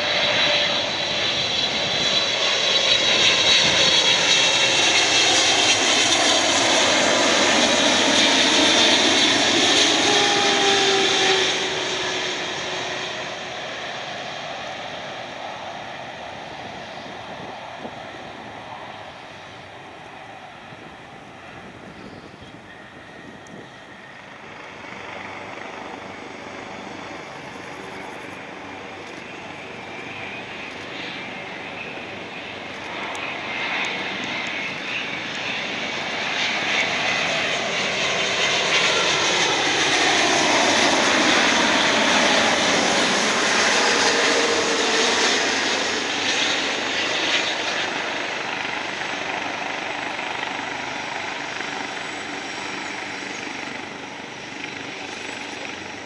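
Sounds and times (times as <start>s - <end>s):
airliner engines whining: 0.0s - 56.0s.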